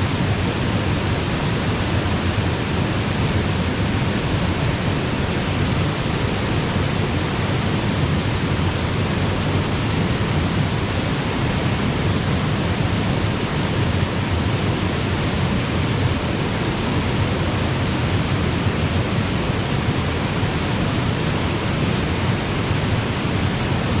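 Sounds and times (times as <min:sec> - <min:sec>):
waterfall and stream rushing: 0:00.0 - 0:24.0.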